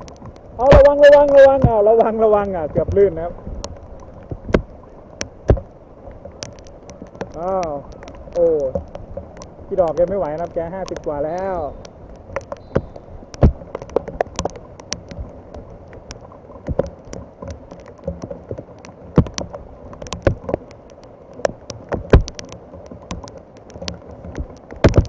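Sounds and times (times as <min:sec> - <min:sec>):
rain falling: 0:00.0 - 0:25.0
raindrops tapping on microphone: 0:00.0 - 0:25.0.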